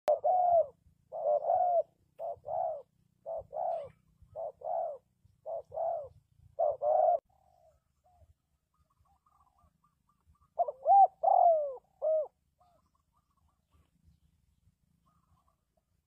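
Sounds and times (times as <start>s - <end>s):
dove cooing: 0.1s - 14.0s, 15.0s - 16.0s.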